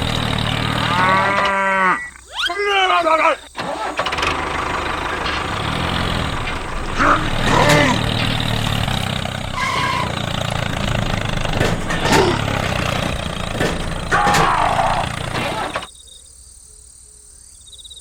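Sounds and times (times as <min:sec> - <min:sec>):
tractor engine idling: 0:00.0 - 0:15.9.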